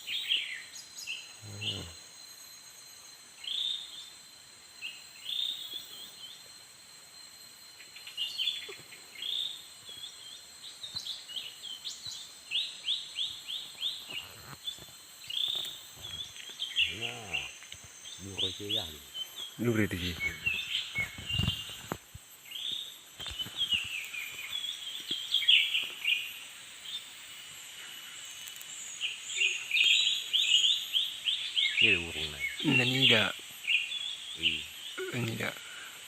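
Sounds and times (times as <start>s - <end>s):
small birds chirping: 0.0s - 2.1s, 7.8s - 36.0s.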